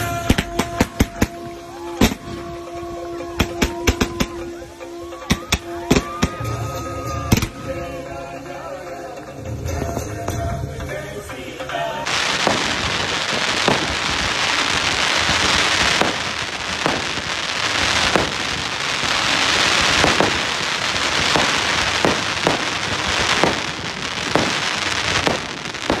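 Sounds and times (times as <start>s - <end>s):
fireworks bangs: 0.0s - 7.9s, 12.0s - 26.0s
fireworks crackling hiss: 0.0s - 26.0s.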